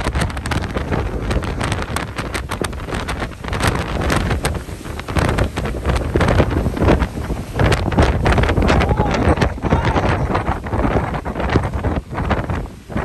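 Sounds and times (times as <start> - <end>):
wind gusting across microphone: 0.0 - 13.0.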